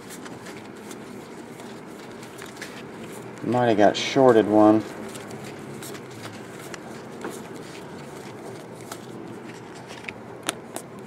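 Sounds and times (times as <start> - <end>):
card edges ticking: 0.0 - 11.0
steady room hum: 0.0 - 11.0.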